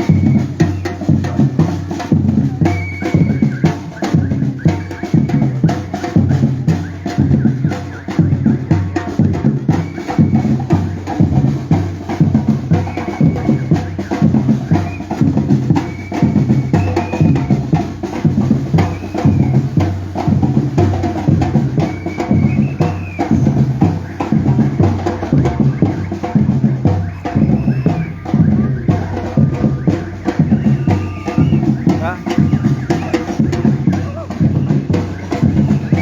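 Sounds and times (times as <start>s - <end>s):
percussion group drumming: 0.0s - 36.0s.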